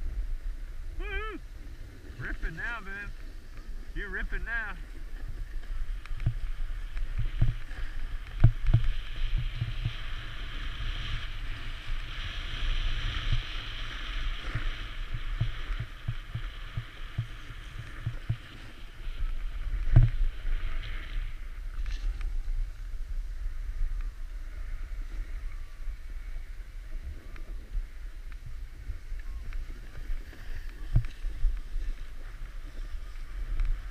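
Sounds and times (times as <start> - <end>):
skis scraping over snow: 0.0 - 33.9.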